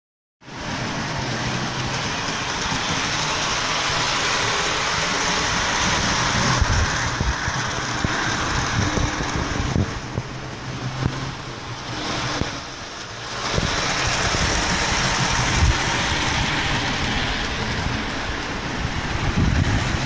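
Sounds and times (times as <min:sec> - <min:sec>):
model train running on track: 0:00.4 - 0:20.0.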